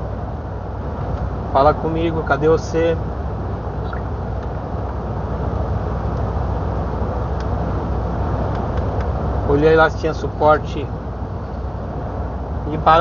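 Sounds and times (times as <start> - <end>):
diesel engine hum: 0.0 - 13.0
road and tyre noise: 0.0 - 13.0.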